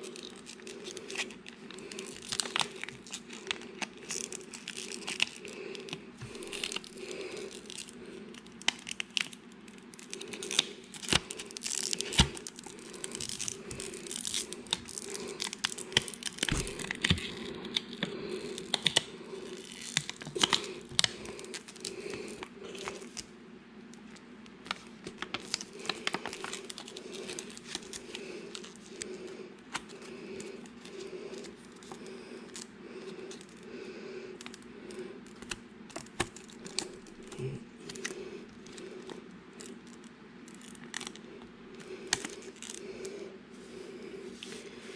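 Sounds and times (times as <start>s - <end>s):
foil crinkling and crackling: 0.0s - 23.3s, 24.0s - 33.6s, 35.2s - 42.9s.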